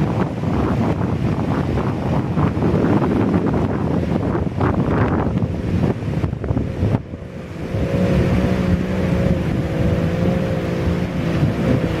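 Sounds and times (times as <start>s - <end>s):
jet ski engine droning: 0.0s - 12.0s
surf: 0.0s - 12.0s
wind buffeting microphone: 0.0s - 12.0s.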